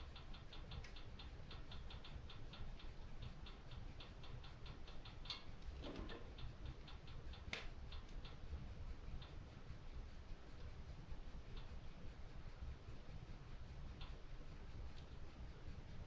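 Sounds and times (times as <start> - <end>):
wood fire crackling: 0.0 - 9.3, 11.1 - 16.0.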